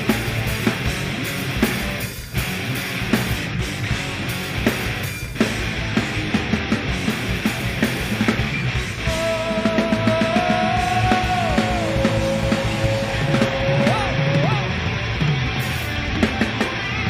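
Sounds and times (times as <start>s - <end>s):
punk band playing live: 0.0s - 17.0s.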